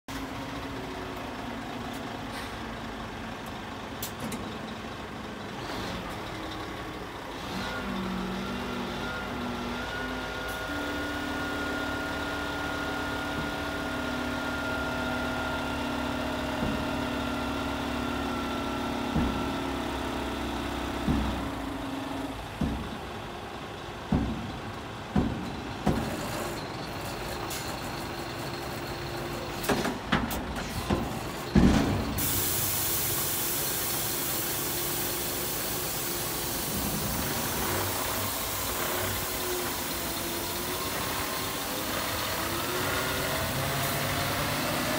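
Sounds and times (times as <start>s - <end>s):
truck engine running: 0.1s - 44.9s.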